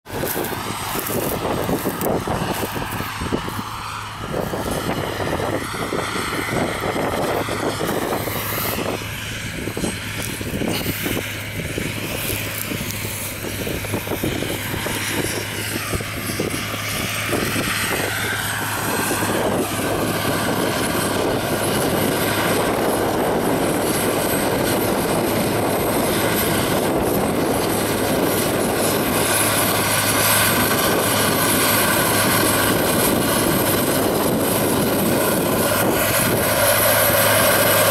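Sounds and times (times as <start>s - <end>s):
high whine: 0.0s - 37.9s
diesel engine running: 0.1s - 37.9s.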